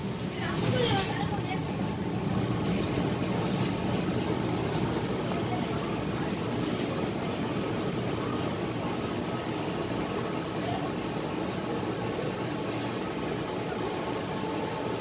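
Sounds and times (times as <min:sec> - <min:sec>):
busy market din: 0:00.0 - 0:15.0.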